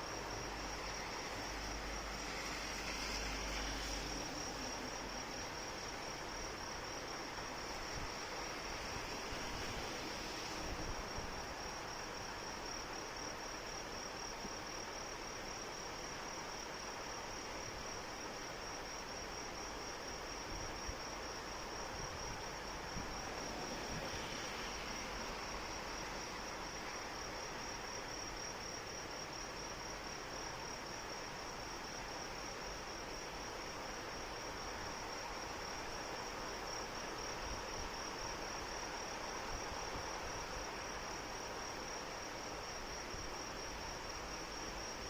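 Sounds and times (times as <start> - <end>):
rain hiss: 0.0 - 45.0.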